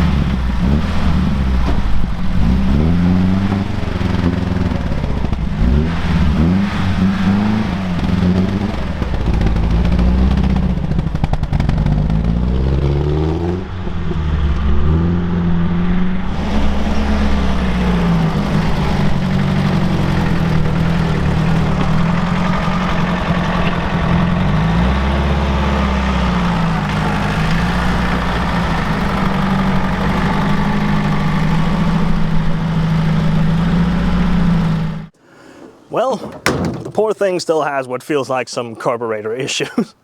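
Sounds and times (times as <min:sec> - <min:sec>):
car engine idling unevenly: 0:00.0 - 0:12.1, 0:17.3 - 0:40.0.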